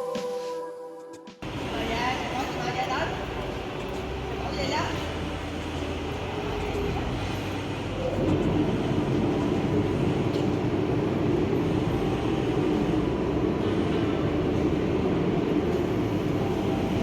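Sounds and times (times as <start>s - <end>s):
heavy machinery droning: 1.4s - 17.0s.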